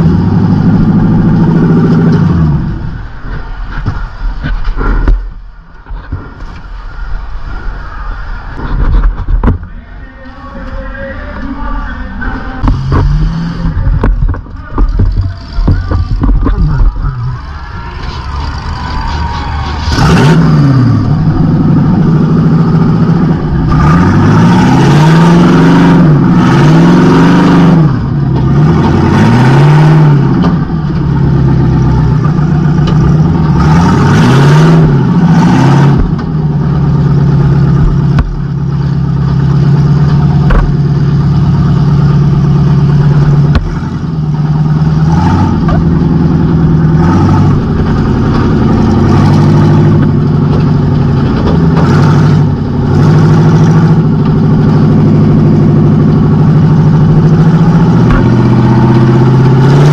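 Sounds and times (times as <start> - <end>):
car engine revving loud: 0.0 - 4.0, 12.2 - 59.9.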